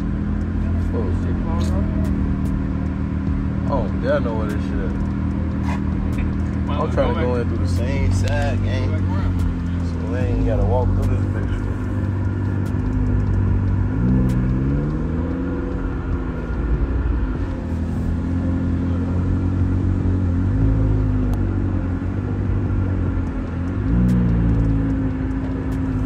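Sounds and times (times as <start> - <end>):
car engine: 0.0 - 26.0
road rumble: 0.0 - 26.0.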